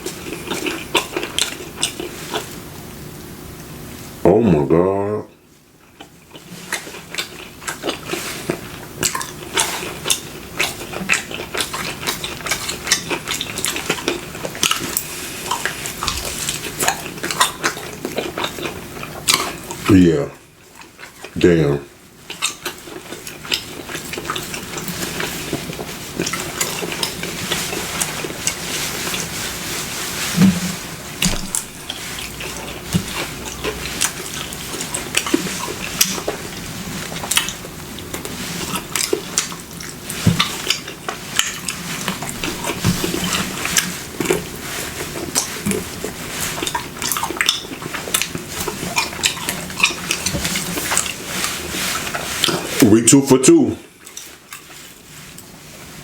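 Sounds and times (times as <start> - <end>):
chewing with wet mouth clicks: 0.0 - 2.6, 5.9 - 19.9, 22.2 - 29.3, 31.2 - 52.8, 54.0 - 55.5.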